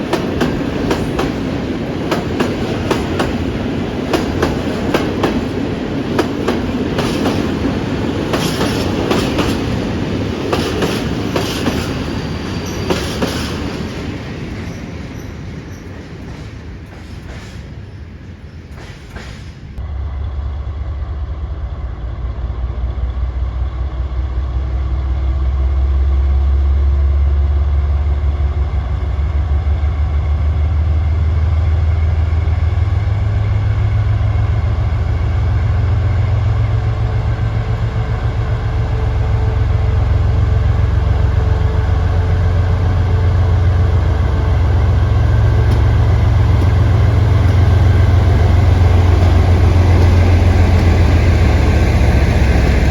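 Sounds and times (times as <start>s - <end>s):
diesel locomotive engine throbbing: 0.0s - 52.9s.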